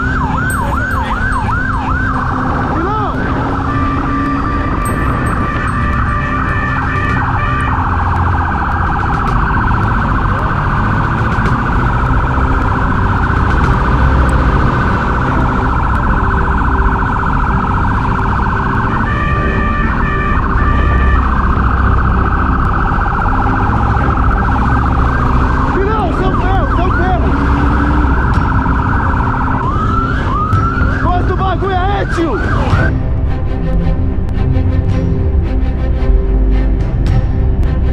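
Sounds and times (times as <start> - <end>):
low rumble: 0.0 - 31.0, 32.4 - 37.9
police siren wailing: 0.0 - 33.0.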